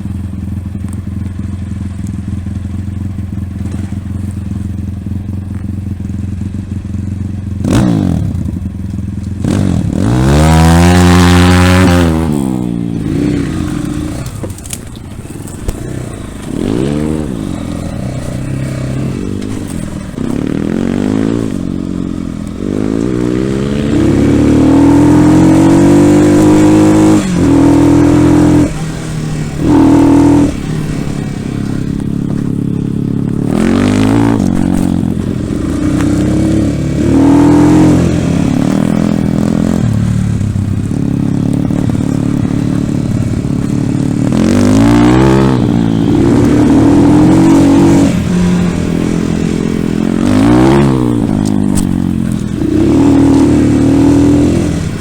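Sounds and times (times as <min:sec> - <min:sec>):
dirt bike engine revving: 0:01.2 - 0:55.0.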